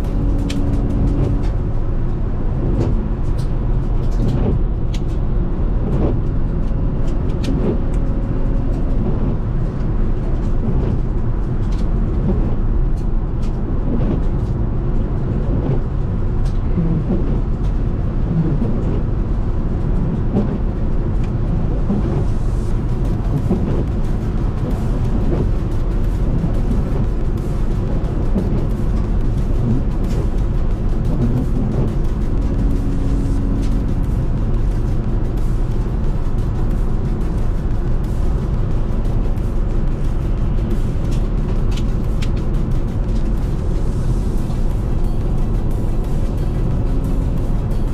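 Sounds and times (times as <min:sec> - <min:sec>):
car cabin rumble: 0:00.0 - 0:47.9.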